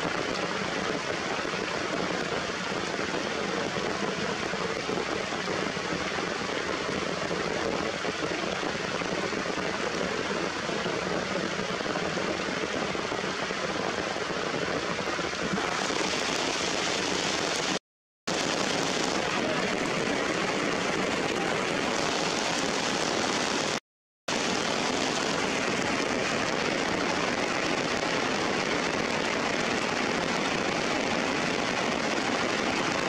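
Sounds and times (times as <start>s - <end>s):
rain on rocks and leaves: 0.0s - 33.0s.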